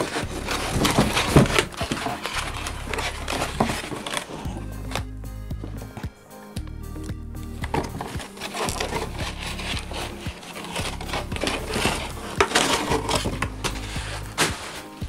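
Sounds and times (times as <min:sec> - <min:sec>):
foam and cardboard rustling: 0:00.0 - 0:06.1, 0:07.6 - 0:15.0.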